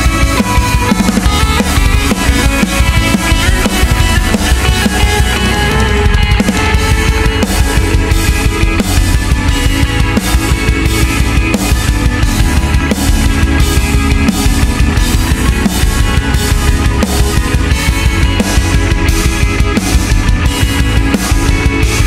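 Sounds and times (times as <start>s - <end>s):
rock music with drum beat: 0.0s - 22.0s.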